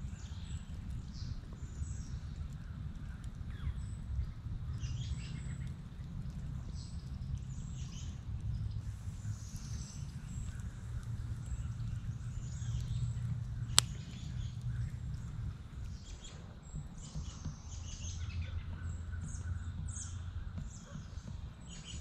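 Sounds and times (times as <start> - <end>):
campfire pop: 0.0 - 22.0
low steady rumble: 0.0 - 22.0
songbirds chirping: 0.0 - 22.0.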